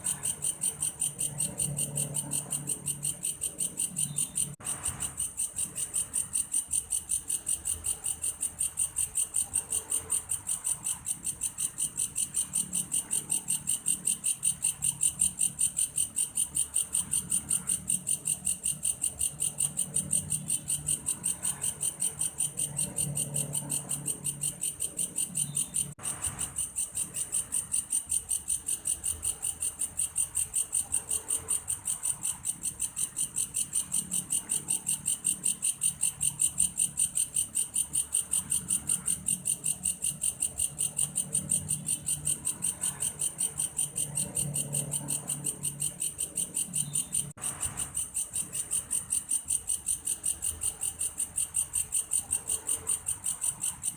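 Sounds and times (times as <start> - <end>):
insect calling in rapid pulses: 0.0 - 53.9.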